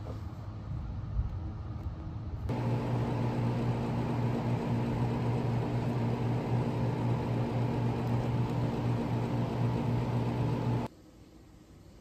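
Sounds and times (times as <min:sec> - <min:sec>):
low hum with tones: 0:00.0 - 0:12.0.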